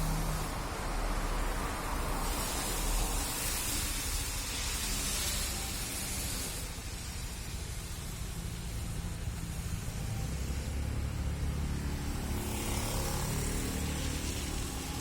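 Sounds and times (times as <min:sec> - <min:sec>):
low vehicle rumble: 0:00.0 - 0:15.0
rain and water spray hiss: 0:00.0 - 0:15.0.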